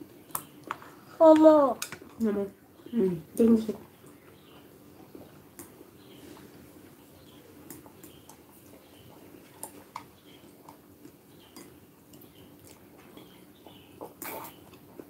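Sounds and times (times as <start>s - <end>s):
soft chewing: 0.0s - 1.2s, 1.8s - 15.0s.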